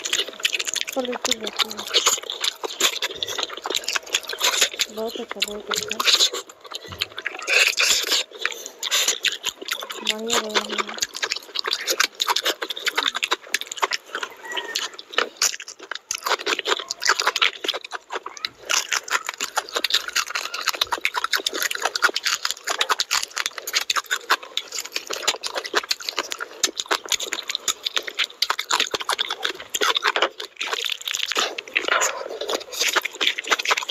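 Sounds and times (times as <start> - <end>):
chewing and lip-smacking: 0.0 - 33.9.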